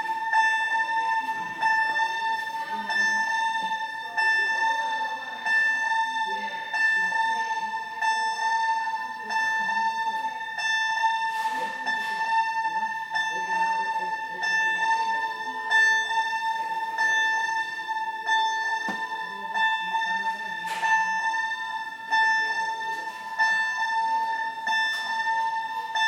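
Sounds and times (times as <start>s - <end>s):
fire alarm electronic tone: 0.0s - 26.0s.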